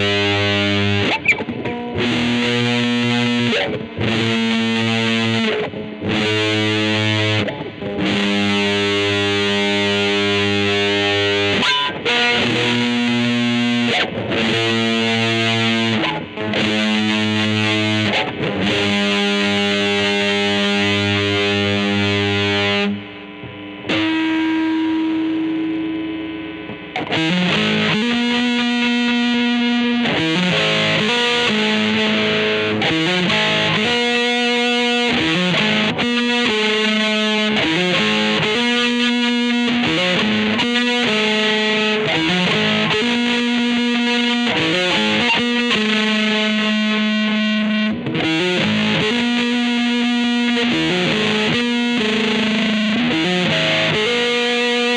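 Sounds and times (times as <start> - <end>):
distorted electric guitar riff: 0.0 - 54.9.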